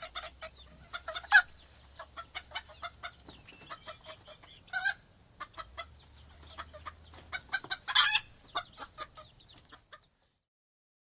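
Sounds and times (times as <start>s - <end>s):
chicken squawks: 0.0s - 10.1s
chickens clucking: 0.0s - 10.5s.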